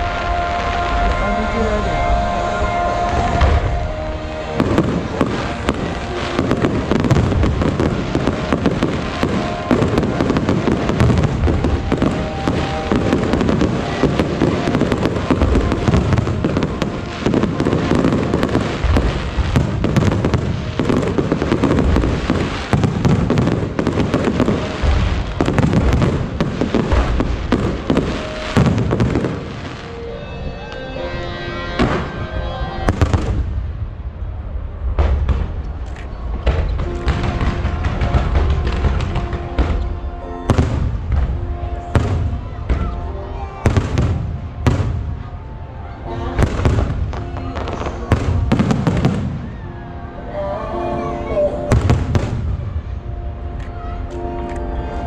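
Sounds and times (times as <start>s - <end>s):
fireworks bangs and crackles: 0.0s - 30.2s, 31.8s - 49.8s, 51.6s - 55.0s
music: 0.0s - 33.5s, 36.4s - 55.0s.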